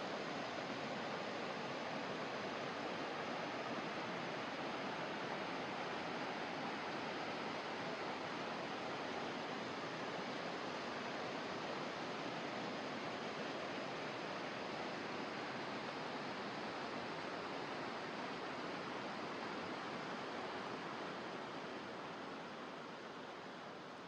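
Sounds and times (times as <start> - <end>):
rushing creek and waterfall: 0.0 - 24.0.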